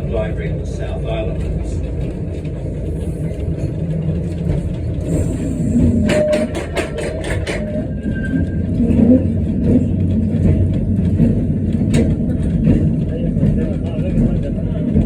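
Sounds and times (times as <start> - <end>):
tram rumbling on rails: 0.0 - 15.0
tram wheel clicks: 0.8 - 15.0.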